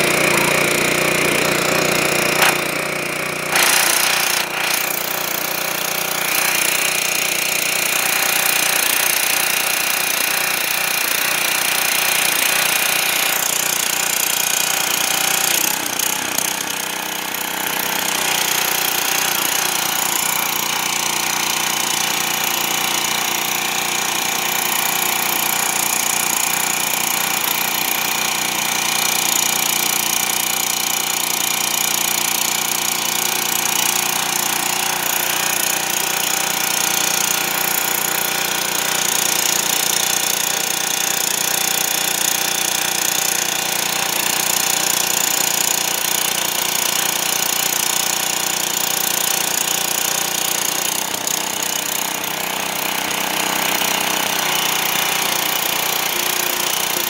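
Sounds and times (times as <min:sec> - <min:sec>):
pressure washer engine drone: 0:00.0 - 0:57.0.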